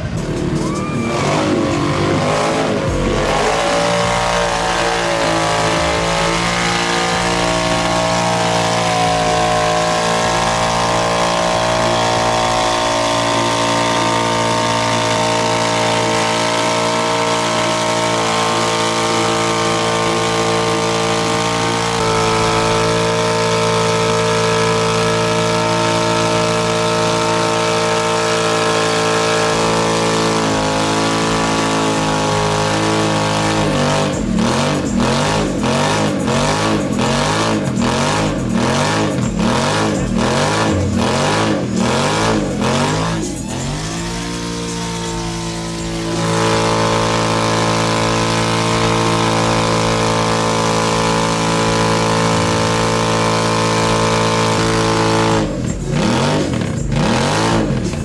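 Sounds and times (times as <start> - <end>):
tires churning in mud: 0.0 - 58.0
utility vehicle engine revving: 0.0 - 58.0.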